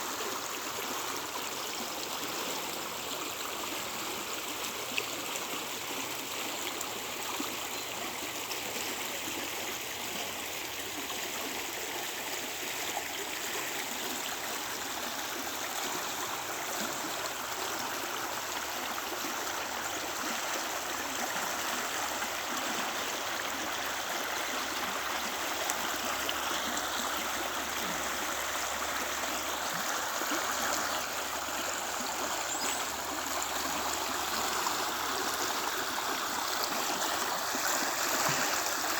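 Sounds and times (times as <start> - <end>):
creek water splashing over rocks: 0.0 - 38.9.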